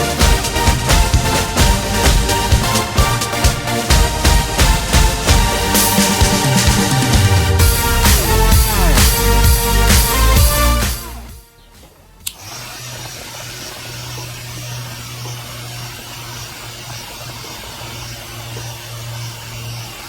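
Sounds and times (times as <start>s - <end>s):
table fan running with low hum: 0.0s - 10.5s, 11.8s - 20.0s.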